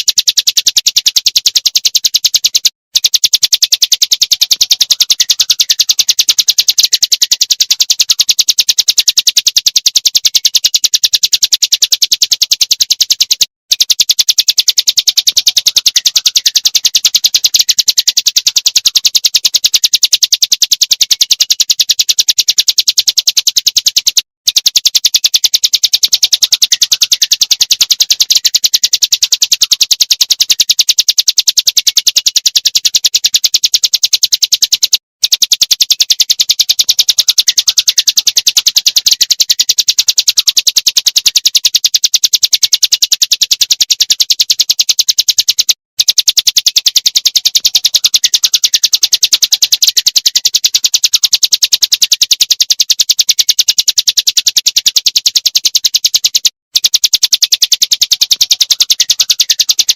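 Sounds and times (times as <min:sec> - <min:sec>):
songbird rapid-fire song: 0:00.0 - 0:59.9.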